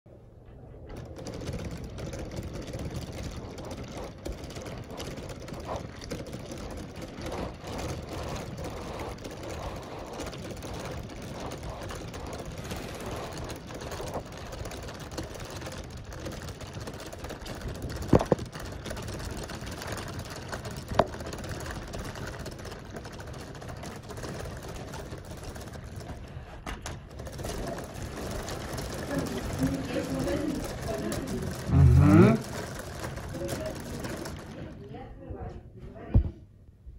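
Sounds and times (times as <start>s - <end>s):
toy gears whirring and rattling: 1.0s - 26.2s, 27.0s - 34.7s.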